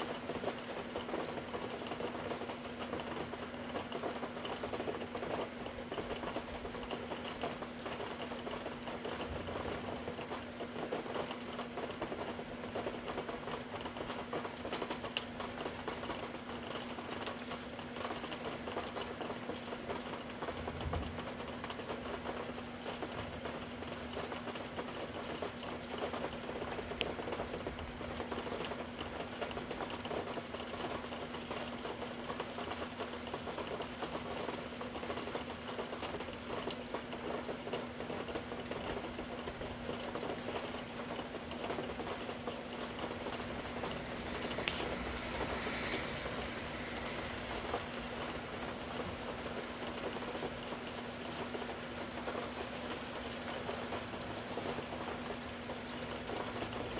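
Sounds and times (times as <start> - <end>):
rain pattering: 0.0 - 56.9.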